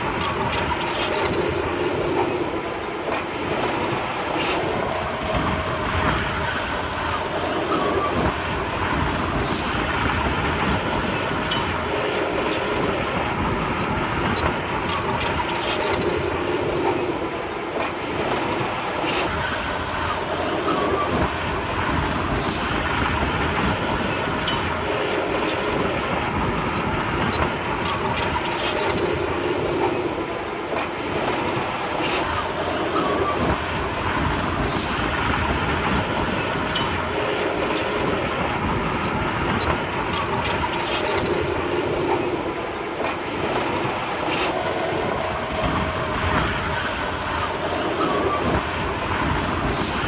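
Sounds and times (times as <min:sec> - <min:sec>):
clanking squeaking tracks: 0:00.0 - 0:50.0.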